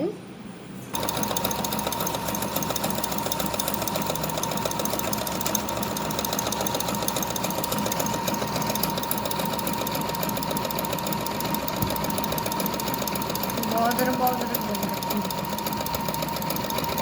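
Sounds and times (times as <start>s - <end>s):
sewing machine running: 0.9s - 17.0s.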